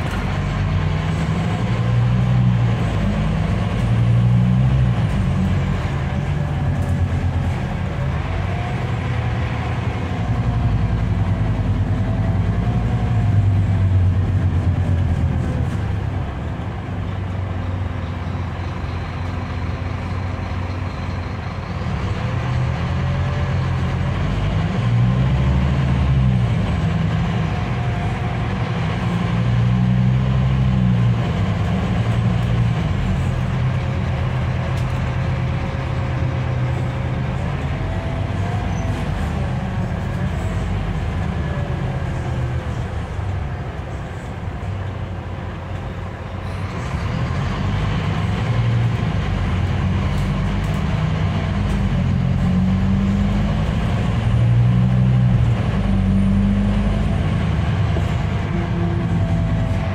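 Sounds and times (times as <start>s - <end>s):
coach engine drone: 0.0s - 59.9s
road and tyre noise: 0.0s - 59.9s.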